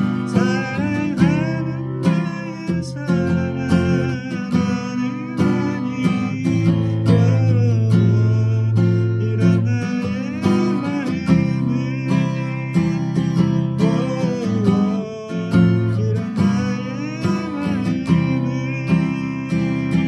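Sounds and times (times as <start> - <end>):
acoustic guitar strumming: 0.0 - 20.0
man singing: 0.0 - 20.0.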